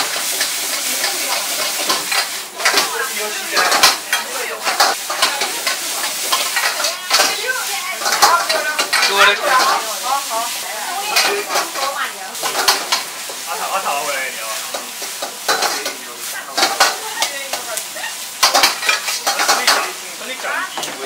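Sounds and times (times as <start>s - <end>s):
food sizzling: 0.0s - 21.0s.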